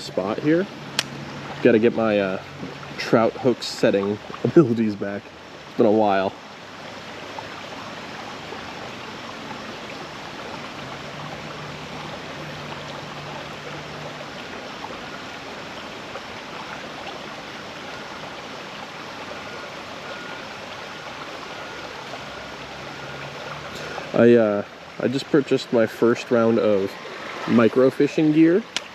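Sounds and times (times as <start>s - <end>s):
creek water flowing: 0.0s - 28.9s.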